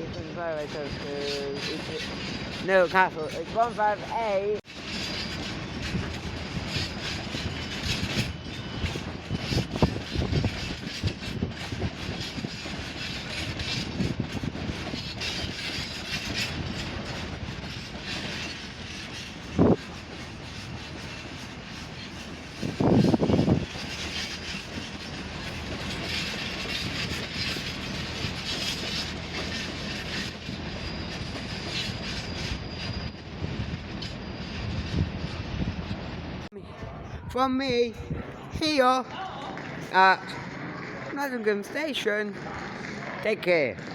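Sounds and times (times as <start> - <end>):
train wheels clicking over rail joints: 0.0 - 36.2
train rumble: 0.0 - 43.9.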